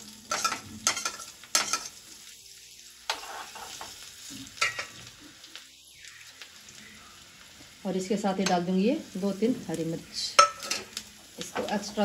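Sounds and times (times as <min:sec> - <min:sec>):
garlic sizzling in hot fat: 0:00.0 - 0:12.0.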